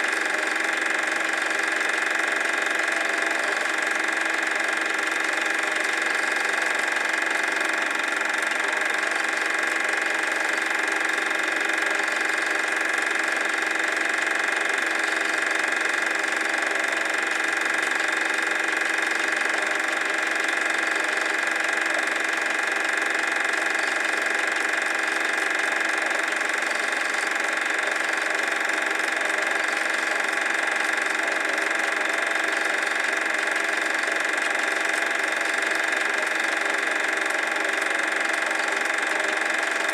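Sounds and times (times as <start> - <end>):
film projector whirring and clattering: 0.0 - 39.9.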